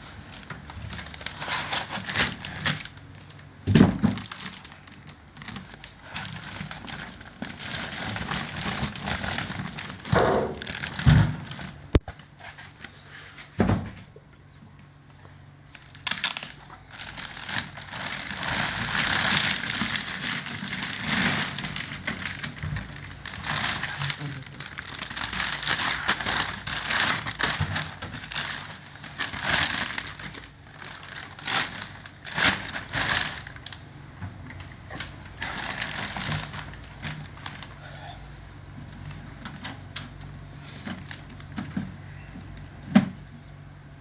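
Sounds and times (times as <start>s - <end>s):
packaging rustling and crackling: 0.0s - 13.0s, 15.7s - 33.9s, 34.6s - 37.8s, 38.8s - 41.9s.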